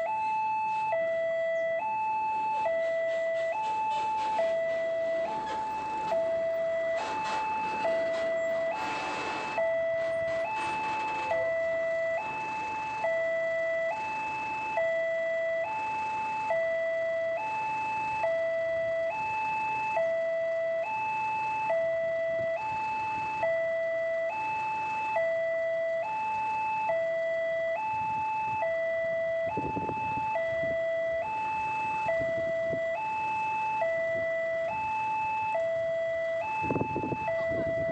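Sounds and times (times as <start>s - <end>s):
two-tone level crossing alarm: 0.0s - 37.9s.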